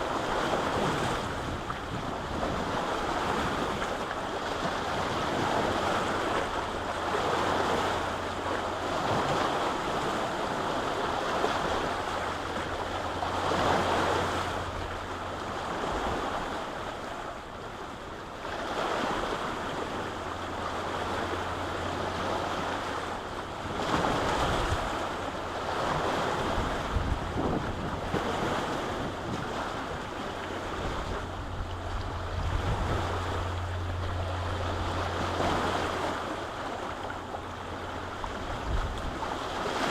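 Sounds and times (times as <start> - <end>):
lake waves washing onto shore: 0.0 - 39.9
wind rumbling on microphone: 0.0 - 39.9.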